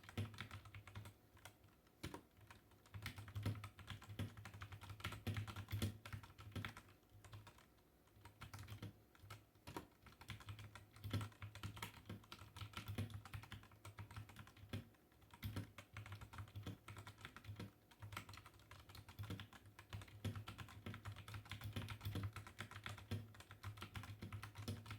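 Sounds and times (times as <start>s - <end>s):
mechanical keyboard typing: 0.0s - 24.9s.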